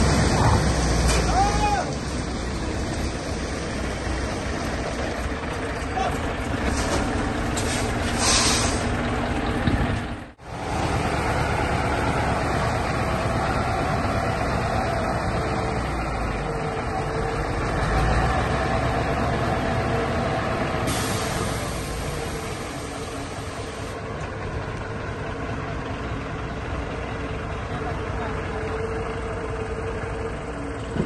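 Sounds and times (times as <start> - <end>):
diesel truck engine running: 0.0 - 31.0
truck moving over gravel: 0.0 - 31.0.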